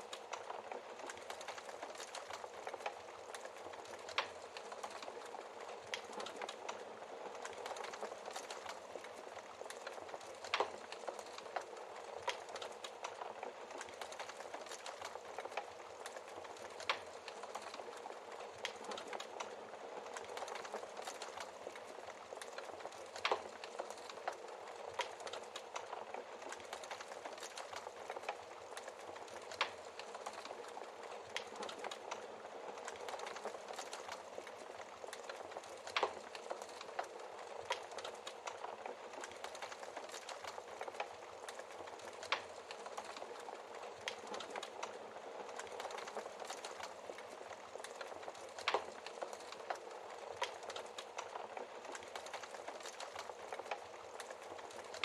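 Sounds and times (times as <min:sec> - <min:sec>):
fire crackling: 0:00.0 - 0:55.0
fire pops: 0:00.1 - 0:55.0.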